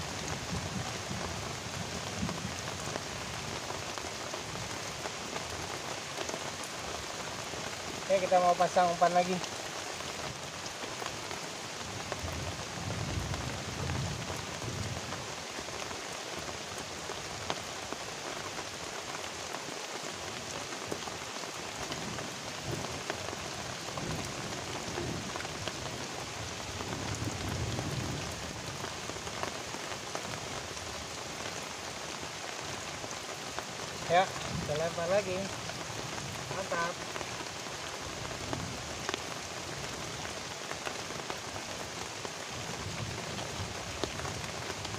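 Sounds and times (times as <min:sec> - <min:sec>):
heavy rain on river and leaves: 0:00.0 - 0:44.9.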